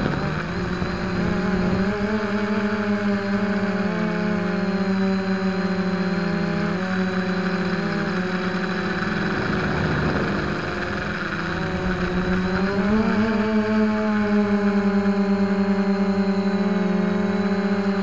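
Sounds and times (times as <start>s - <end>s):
quadcopter motors humming: 0.0s - 18.0s.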